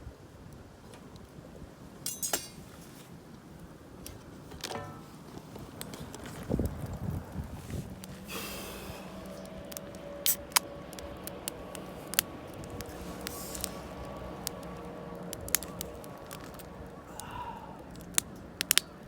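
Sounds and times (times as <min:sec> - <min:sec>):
campfire crackling and popping: 0:03.2 - 0:19.0.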